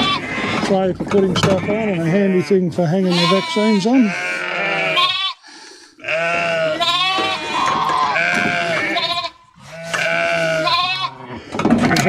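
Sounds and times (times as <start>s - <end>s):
sheep bleating loudly: 0.0s - 0.6s, 1.4s - 5.4s, 6.0s - 11.4s.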